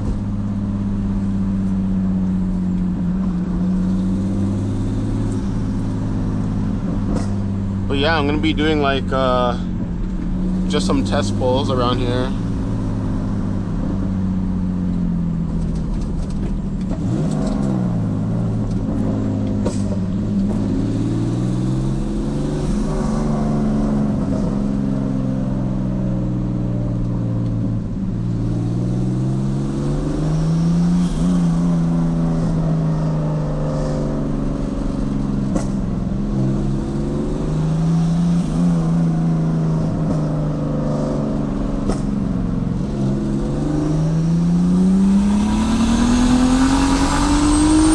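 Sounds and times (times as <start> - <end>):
turbocharged car engine revving: 2.2 - 47.9.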